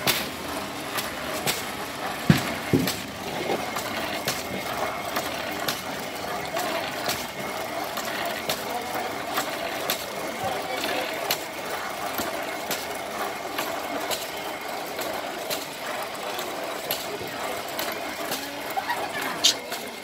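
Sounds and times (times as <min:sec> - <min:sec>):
rice-pounding machine knocking: 0:00.0 - 0:20.0
steady machine hum: 0:00.0 - 0:20.0.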